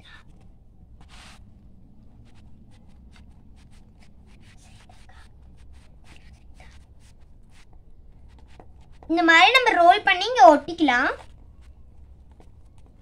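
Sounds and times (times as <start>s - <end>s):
clay rubbing on paper: 0.0s - 13.0s.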